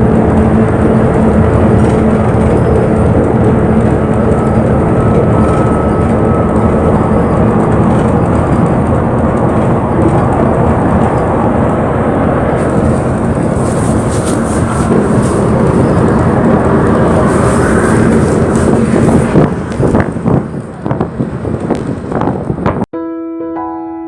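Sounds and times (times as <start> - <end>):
road noise: 0.0 - 22.8
bus engine drone: 0.0 - 22.9.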